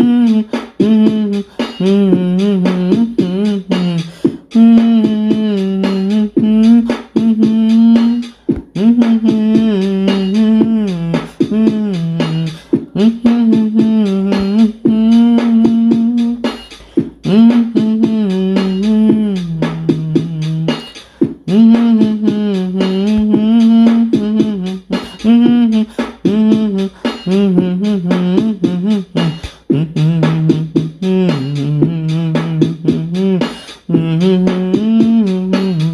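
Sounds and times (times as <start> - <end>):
quick clicking beat: 0.0 - 35.9
wordless vocal melody: 0.0 - 35.9.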